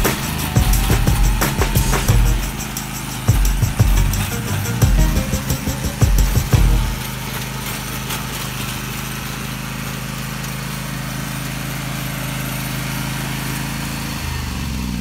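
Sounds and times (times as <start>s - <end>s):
garden tractor engine running: 0.0s - 15.0s.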